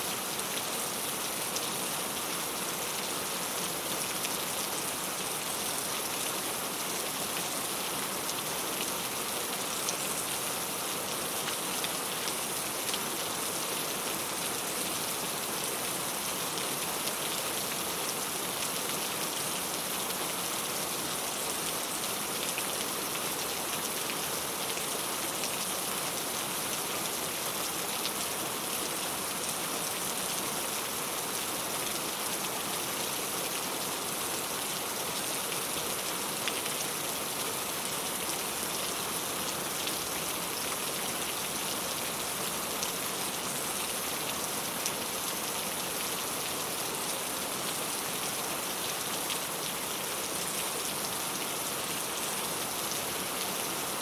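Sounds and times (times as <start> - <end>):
rain on a tile roof: 0.0 - 54.0.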